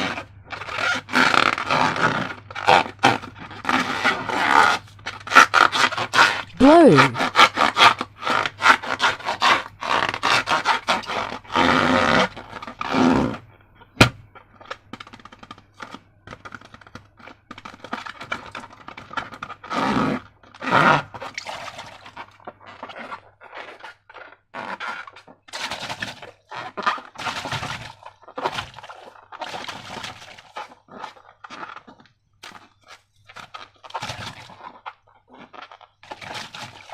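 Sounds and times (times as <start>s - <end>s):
squeaky rubbing on balloon: 0.0s - 13.4s, 15.2s - 32.0s
slime squishing and crackling: 0.0s - 36.9s.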